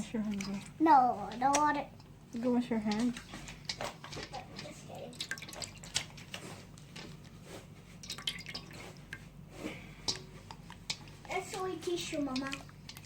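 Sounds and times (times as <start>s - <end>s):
slime squelching: 0.0s - 2.0s, 2.7s - 13.0s.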